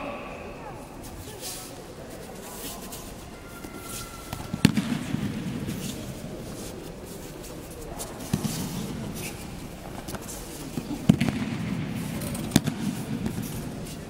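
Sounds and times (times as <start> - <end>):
large hall rumble: 0.0 - 14.0.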